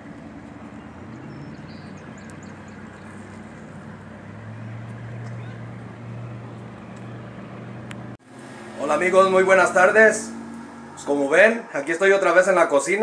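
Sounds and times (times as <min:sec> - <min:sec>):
distant motorboat engine droning: 0:00.0 - 0:13.0.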